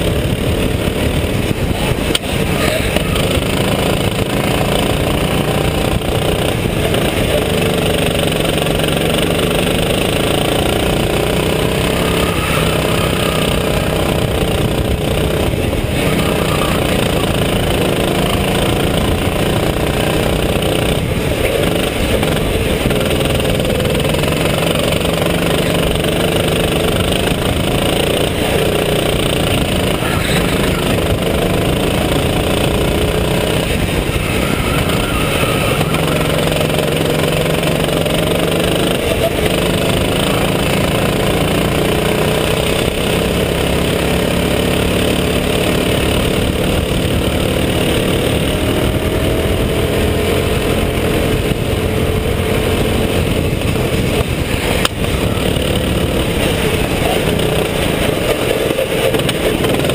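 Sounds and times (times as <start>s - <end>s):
kart engine running at speed: 0.0s - 59.9s.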